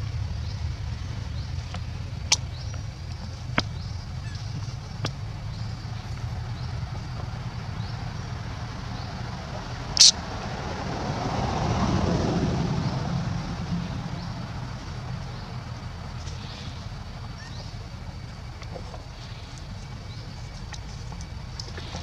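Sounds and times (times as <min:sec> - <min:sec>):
low traffic rumble: 0:00.0 - 0:22.0
motor vehicle passing: 0:00.0 - 0:22.0.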